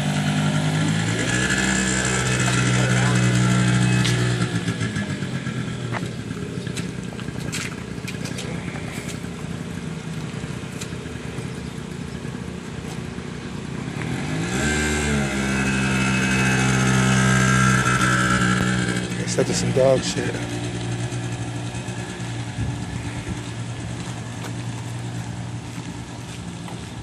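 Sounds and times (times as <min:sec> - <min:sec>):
scooter engine idling and revving: 0:00.0 - 0:27.0.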